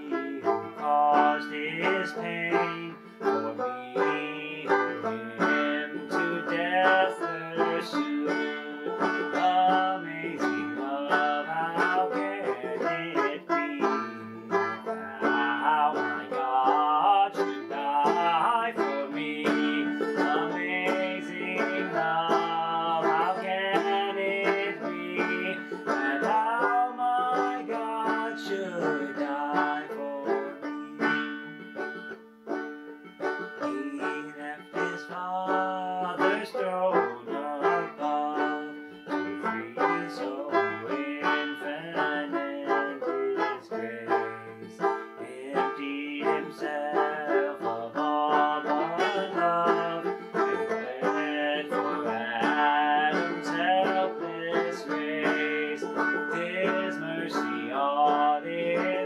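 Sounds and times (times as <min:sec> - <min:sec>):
man singing: 0:00.0 - 0:31.6, 0:33.6 - 0:59.0
banjo playing: 0:00.0 - 0:59.0.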